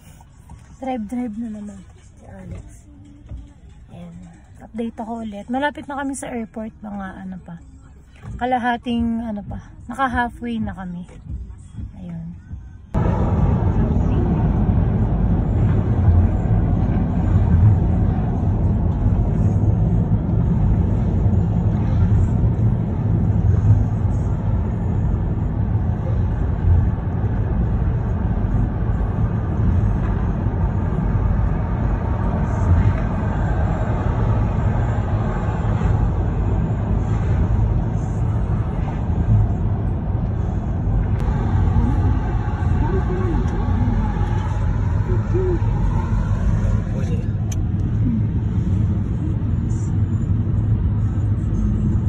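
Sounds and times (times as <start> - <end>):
car cabin road rumble: 0.0 - 52.0.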